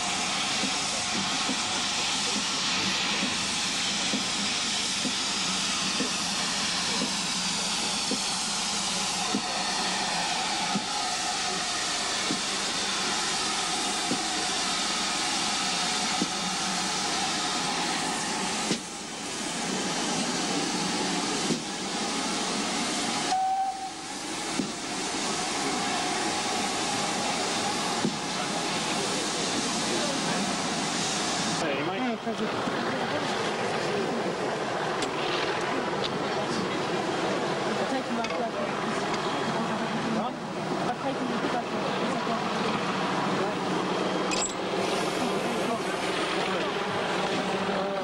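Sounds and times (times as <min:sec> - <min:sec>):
steam hissing: 0:00.0 - 0:48.0.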